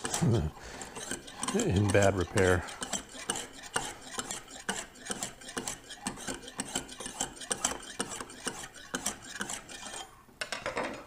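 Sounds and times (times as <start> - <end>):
hone rasping along knife edge: 0.0 - 10.2.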